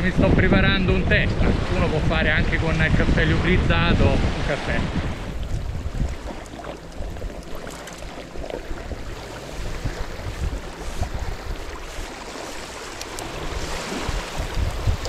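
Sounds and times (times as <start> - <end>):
wind rumbling on microphone: 0.0 - 15.0
small waves lapping: 1.1 - 15.0.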